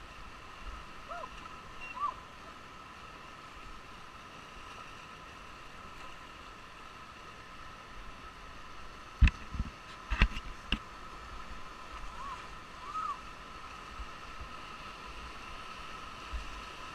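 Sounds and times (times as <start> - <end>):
whitewater river rushing: 0.0 - 9.1, 9.9 - 16.9.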